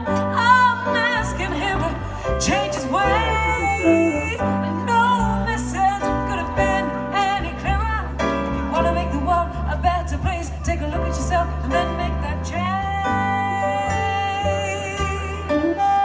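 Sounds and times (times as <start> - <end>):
plucked upright bass: 0.0 - 16.0
stage piano: 0.0 - 16.0
woman singing wordless lines: 0.0 - 16.0.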